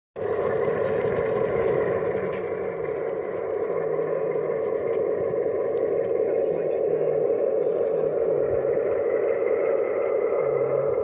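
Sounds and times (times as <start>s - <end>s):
model locomotive engine drone: 0.2s - 11.0s.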